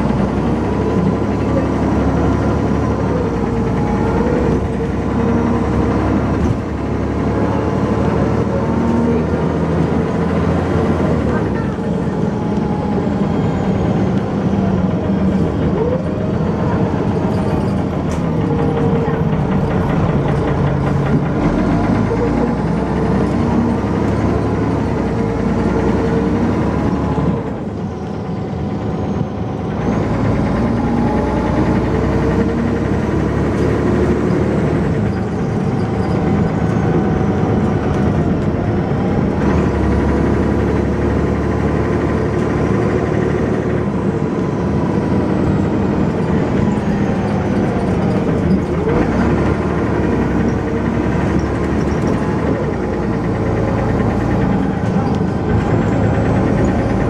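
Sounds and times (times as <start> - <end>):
bus engine accelerating: 0.0 - 57.0.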